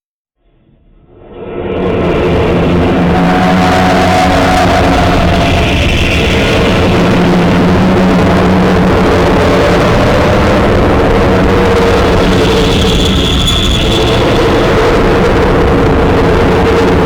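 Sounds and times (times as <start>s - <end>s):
harsh distorted droning noise: 0.4s - 17.0s
steady tones: 1.0s - 17.0s.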